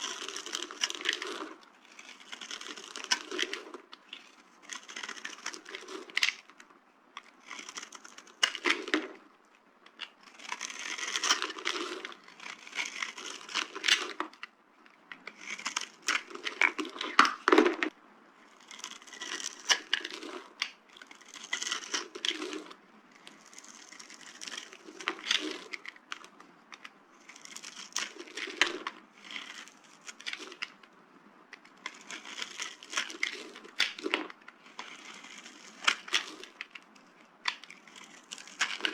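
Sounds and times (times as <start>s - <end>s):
bar soap crunching and crackling: 0.0s - 38.9s.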